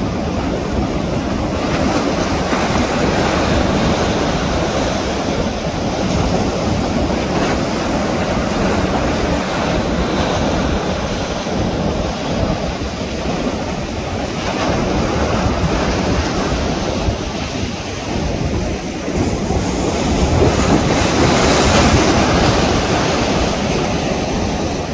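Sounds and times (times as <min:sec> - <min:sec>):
ocean surf breaking: 0:00.0 - 0:24.9
wind buffeting microphone: 0:00.0 - 0:24.9.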